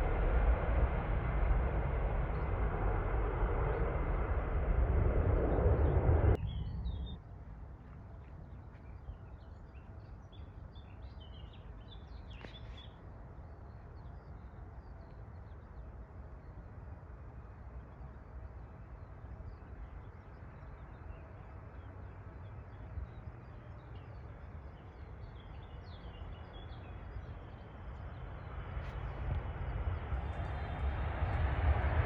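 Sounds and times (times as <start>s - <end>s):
jet engine noise: 0.0s - 7.2s, 12.5s - 32.0s.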